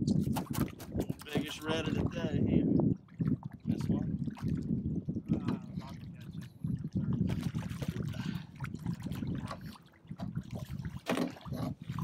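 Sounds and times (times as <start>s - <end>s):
water splashing beside boat: 0.0s - 12.0s.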